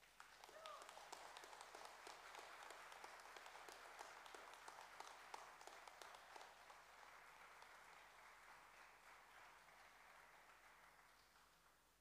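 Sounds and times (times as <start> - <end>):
faint crowd applause: 0.0 - 12.0.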